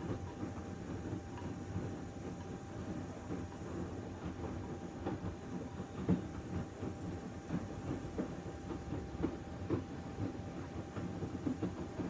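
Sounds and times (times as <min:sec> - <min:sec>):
washing machine hum: 0:00.0 - 0:12.0.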